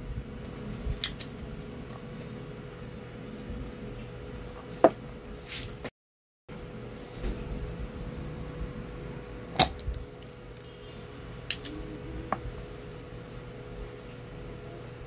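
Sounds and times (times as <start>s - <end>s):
low electrical hum: 0.0s - 5.9s, 6.5s - 15.0s.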